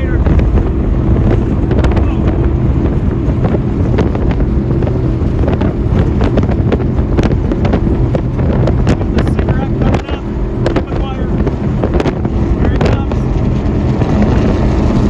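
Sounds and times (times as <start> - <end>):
powerboat engines running hard: 0.0 - 15.0
wind buffeting microphone: 0.0 - 15.0.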